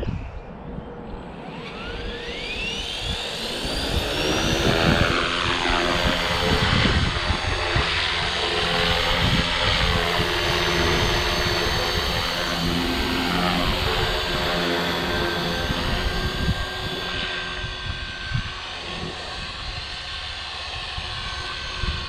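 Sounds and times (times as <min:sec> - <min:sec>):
rc helicopter motor whine: 0:00.0 - 0:22.0
wind on microphone: 0:00.0 - 0:22.0.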